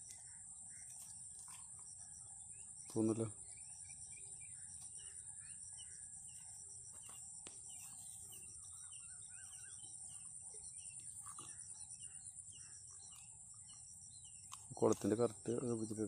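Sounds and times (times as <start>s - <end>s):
high-pitched insect drone: 0.0s - 16.0s
small birds chirping: 0.0s - 16.0s.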